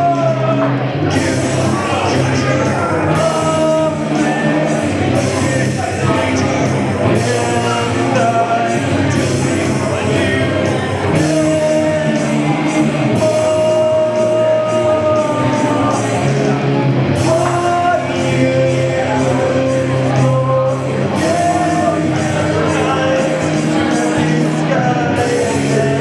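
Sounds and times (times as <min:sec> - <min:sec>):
live rock music: 0:00.0 - 0:26.0
person singing long notes: 0:00.0 - 0:26.0.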